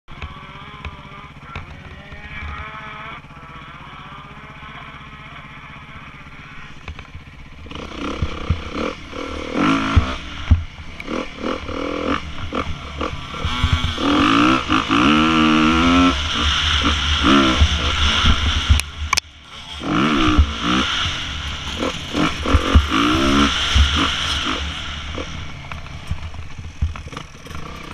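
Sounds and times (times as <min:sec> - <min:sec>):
dirt bike engines revving: 0:00.1 - 0:27.9.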